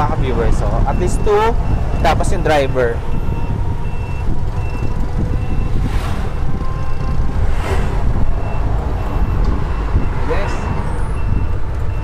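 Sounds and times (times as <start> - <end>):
wind and road noise: 0.0 - 12.0
electronic warning beeps: 0.7 - 7.4, 8.3 - 12.0.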